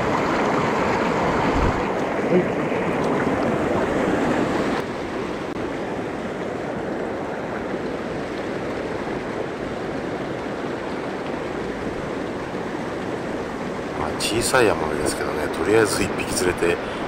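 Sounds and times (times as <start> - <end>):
mountain stream flowing: 0.0 - 17.0.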